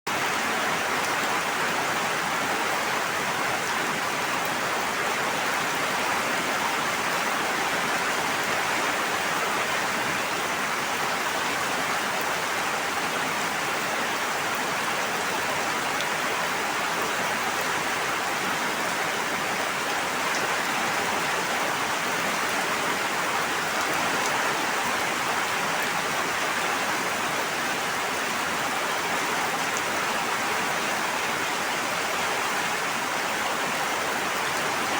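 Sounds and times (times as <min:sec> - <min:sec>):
steady rush of water: 0:00.1 - 0:34.9.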